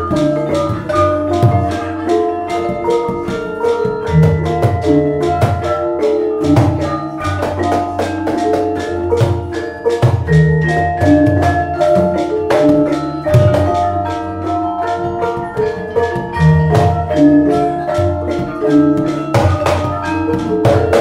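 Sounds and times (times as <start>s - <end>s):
drum tones: 0.0s - 21.0s
metal-keyed instruments ringing: 0.0s - 21.0s
pot gongs struck with mallets: 0.0s - 21.0s.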